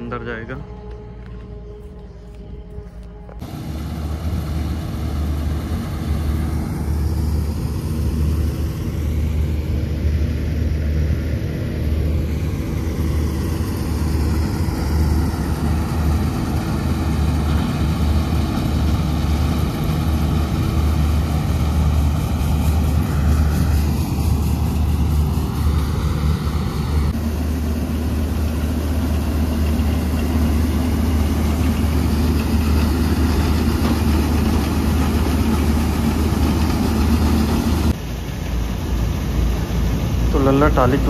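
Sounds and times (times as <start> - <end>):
combine harvester diesel engine: 0.0 - 41.0.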